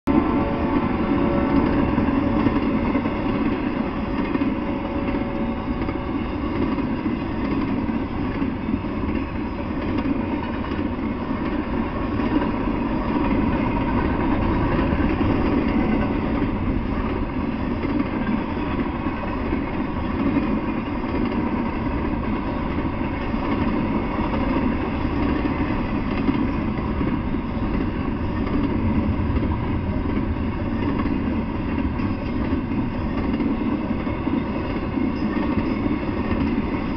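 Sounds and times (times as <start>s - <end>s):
freight train passing: 0.0s - 36.9s.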